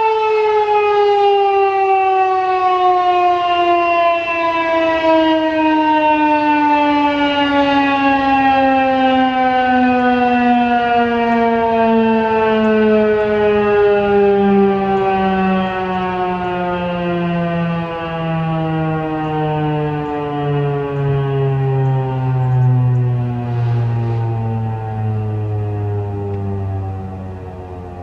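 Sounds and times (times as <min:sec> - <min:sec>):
warning siren winding down: 0:00.0 - 0:28.0.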